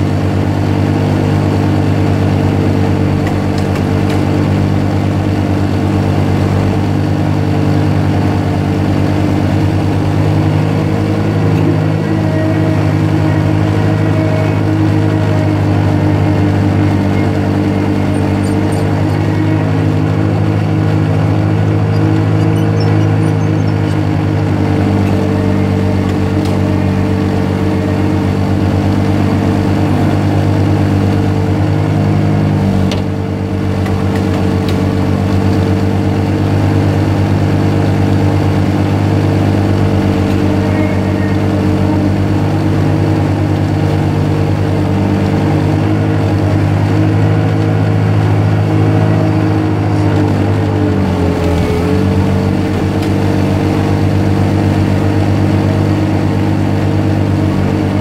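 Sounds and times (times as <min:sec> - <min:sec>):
ice resurfacer engine running: 0:00.0 - 0:58.0.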